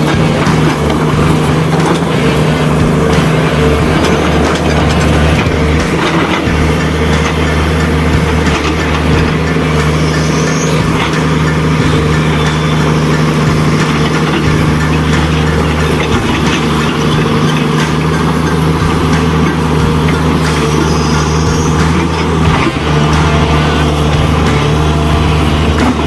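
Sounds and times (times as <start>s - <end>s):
diesel engine low drone: 0.0s - 26.0s.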